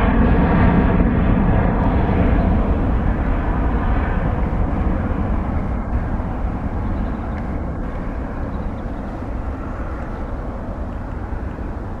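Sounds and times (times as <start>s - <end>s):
jet engines deep rumble: 0.0s - 12.0s.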